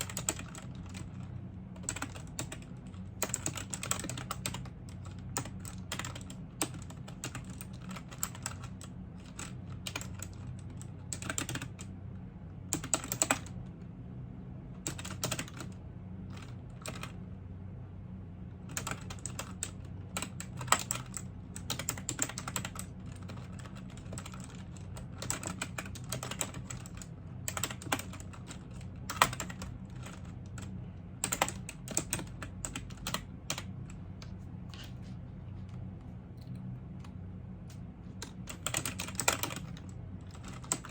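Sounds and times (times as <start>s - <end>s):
computer keyboard typing: 0.0s - 11.9s, 12.7s - 13.6s, 14.8s - 17.2s, 18.6s - 34.0s, 38.2s - 40.9s
steady low hum: 0.0s - 40.9s.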